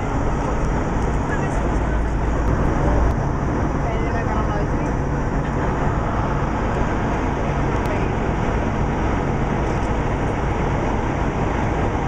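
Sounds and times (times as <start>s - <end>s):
bus engine rumble: 0.0s - 12.0s
road noise inside bus: 0.0s - 12.0s.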